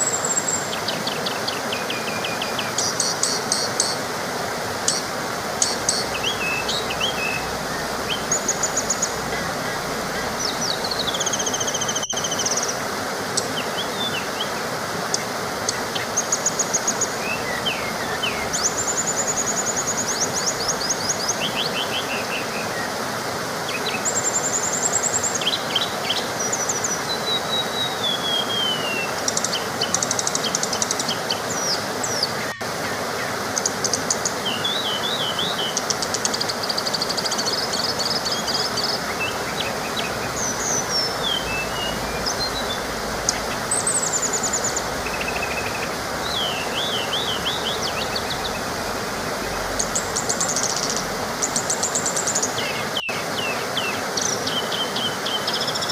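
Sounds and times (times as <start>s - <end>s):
birds chirping and trilling: 0.0s - 4.1s, 4.8s - 23.0s, 23.6s - 55.9s
small waterfall rushing: 0.0s - 55.9s.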